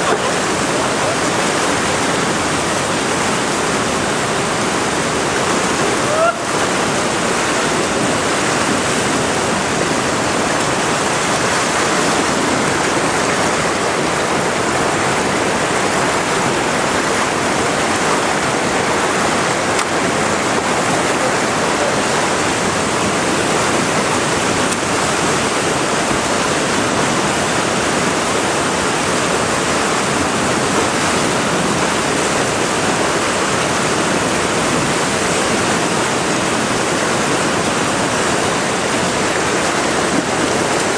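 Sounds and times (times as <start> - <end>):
whitewater rushing: 0.0 - 40.9.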